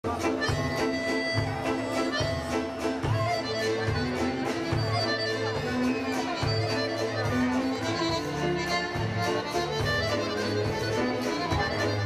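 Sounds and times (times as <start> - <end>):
accordion and orchestra playing: 0.0 - 12.0
sharp struck notes: 0.1 - 12.0.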